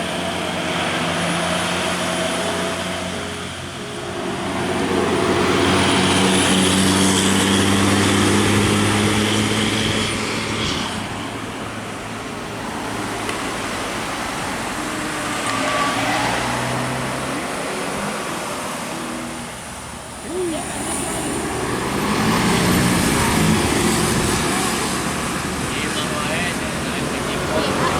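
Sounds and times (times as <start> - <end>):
large vehicle engine passing: 0.0 - 27.9
road traffic: 0.0 - 27.9.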